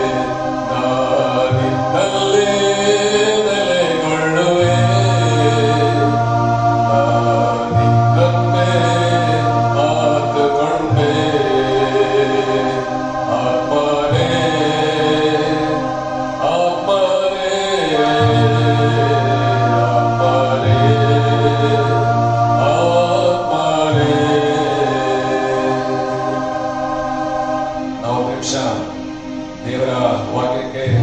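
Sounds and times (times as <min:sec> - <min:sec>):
choir singing a hymn: 0:00.0 - 0:31.0
low accompanying tone: 0:00.0 - 0:31.0.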